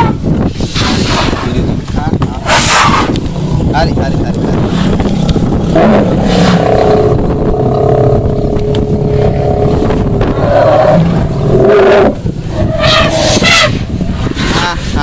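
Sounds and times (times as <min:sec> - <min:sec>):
engine rumbling: 0:00.2 - 0:15.0.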